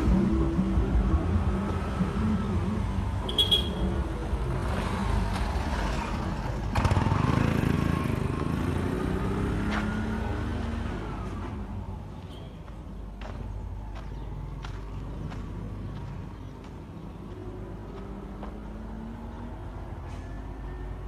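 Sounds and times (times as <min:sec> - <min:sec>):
vehicle engine running: 0:00.0 - 0:20.9
street noise: 0:00.0 - 0:21.0.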